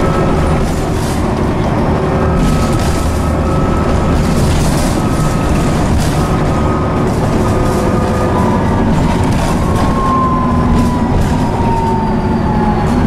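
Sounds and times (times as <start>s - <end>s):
low bus engine rumble: 0.0s - 13.0s.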